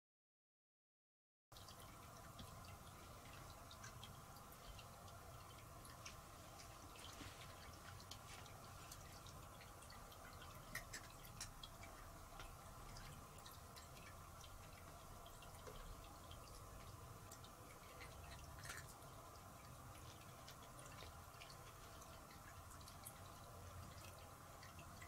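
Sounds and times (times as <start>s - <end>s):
faint room hum: 1.6s - 25.0s.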